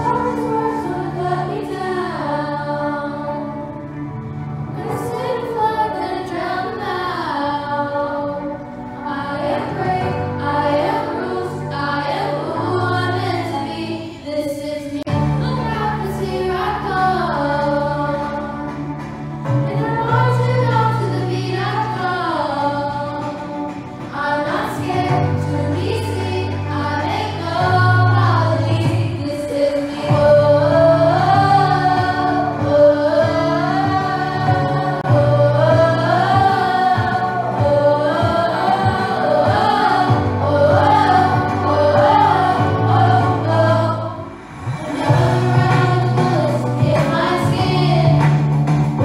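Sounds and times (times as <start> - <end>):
song with sung melody and bass: 0.0 - 49.0.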